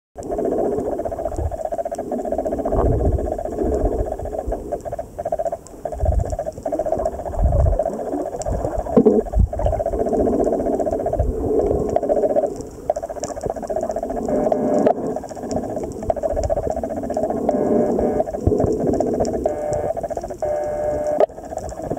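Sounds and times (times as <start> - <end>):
water sloshing and rumbling: 0.2 - 20.5
faint ticks: 0.2 - 21.9
muffled underwater hum: 0.2 - 21.9.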